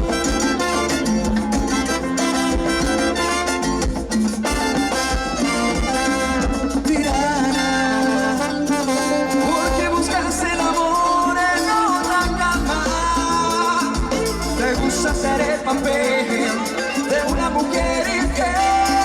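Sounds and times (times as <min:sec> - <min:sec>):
live latin dance band: 0:00.0 - 0:19.0.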